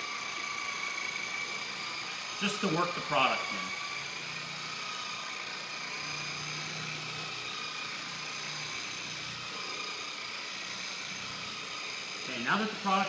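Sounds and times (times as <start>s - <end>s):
polisher motor humming: 0.0s - 13.0s.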